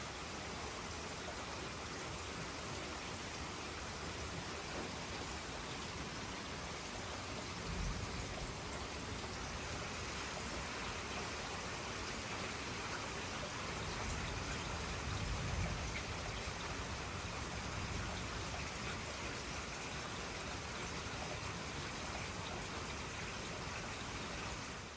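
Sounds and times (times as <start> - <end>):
heavy rain falling: 0.0 - 24.9.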